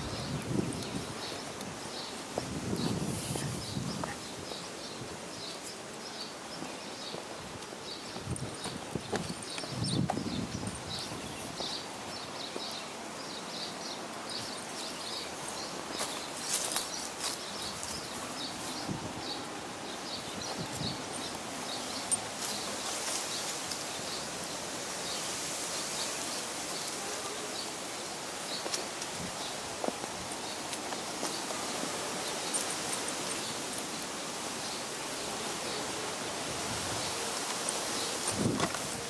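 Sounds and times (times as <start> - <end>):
rustling on dry grass and leaves: 0.0 - 39.0.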